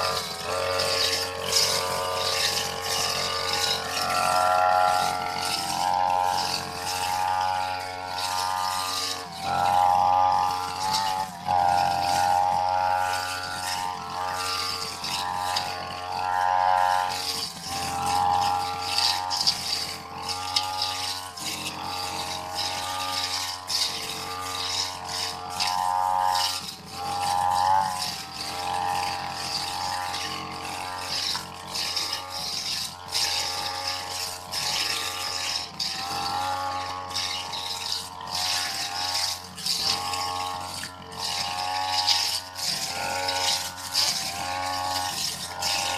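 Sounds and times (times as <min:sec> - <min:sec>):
brush cutter cutting grass: 0:00.0 - 0:45.9.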